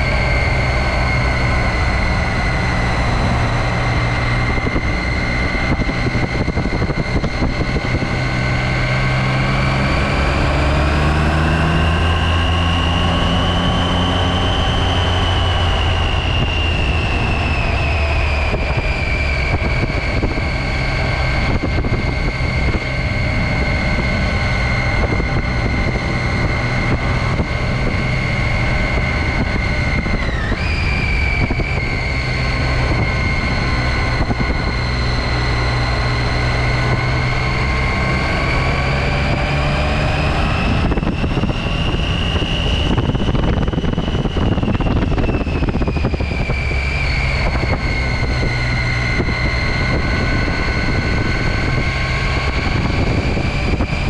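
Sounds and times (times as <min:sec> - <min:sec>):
high engine whine: 0:00.0 - 0:54.0.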